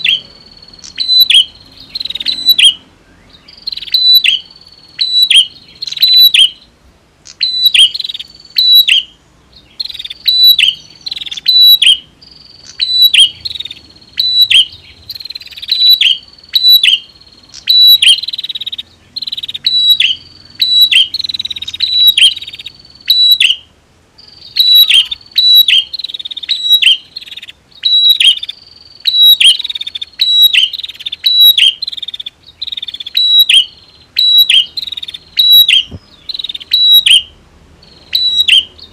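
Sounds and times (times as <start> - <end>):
birds chirping sharply: 0.0 - 38.9.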